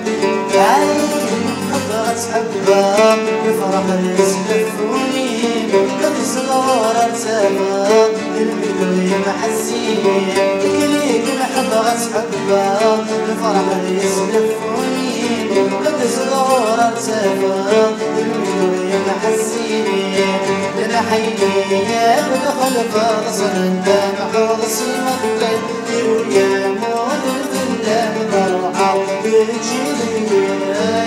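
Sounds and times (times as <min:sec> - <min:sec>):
acoustic guitars: 0:00.0 - 0:31.0
man singing: 0:00.0 - 0:31.0
plucked lute: 0:00.0 - 0:31.0.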